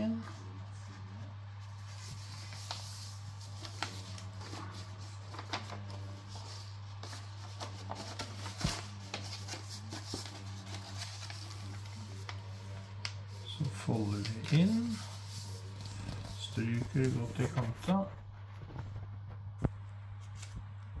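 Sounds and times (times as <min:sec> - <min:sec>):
steady low hum: 0:00.0 - 0:21.0
paper rustling and crinkling: 0:00.2 - 0:19.4, 0:20.2 - 0:20.6.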